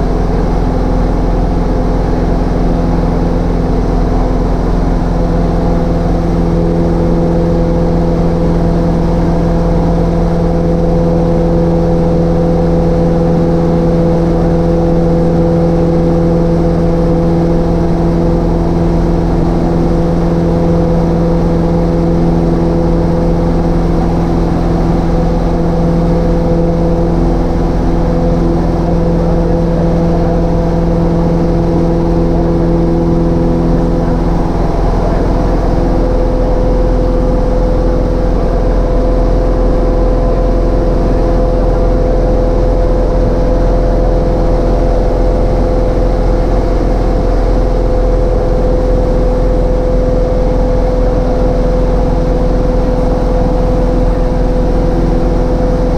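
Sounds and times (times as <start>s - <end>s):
small plane engine droning: 0.0s - 55.9s.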